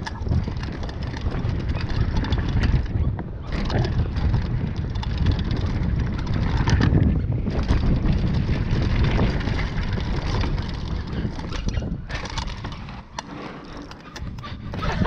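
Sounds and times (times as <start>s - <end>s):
bike clicks and rattles: 0.0s - 15.0s
tyres rolling on loose dirt: 0.0s - 15.0s
wind buffeting microphone: 0.0s - 15.0s.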